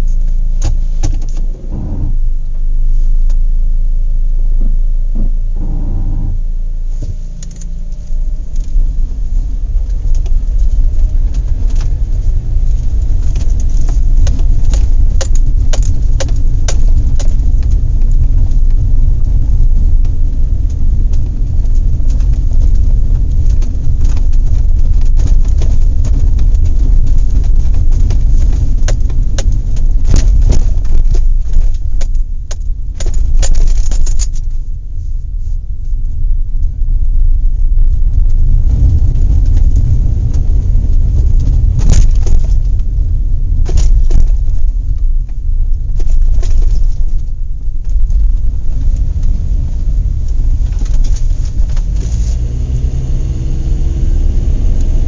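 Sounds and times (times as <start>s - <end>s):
heavy low rumble: 0.0s - 55.0s.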